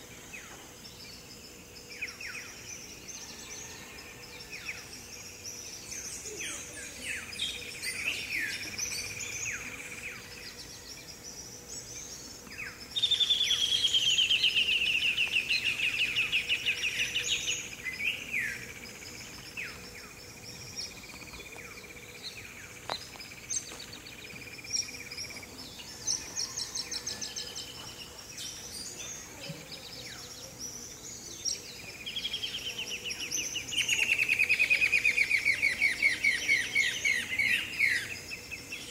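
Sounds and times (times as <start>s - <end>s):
birds singing and chirping: 0.0s - 38.9s.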